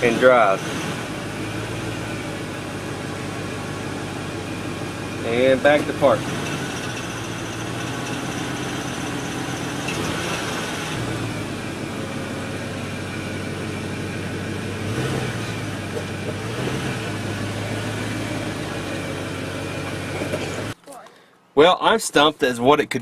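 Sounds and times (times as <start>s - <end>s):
car engine idling: 0.0s - 20.8s
engine whining noise: 0.0s - 20.8s.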